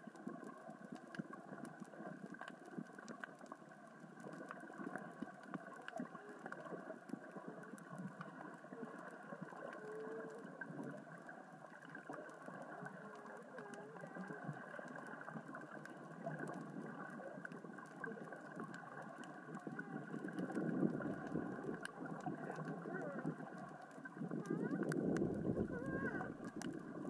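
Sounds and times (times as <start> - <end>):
underwater rocks rolling and crackling: 0.0 - 27.0.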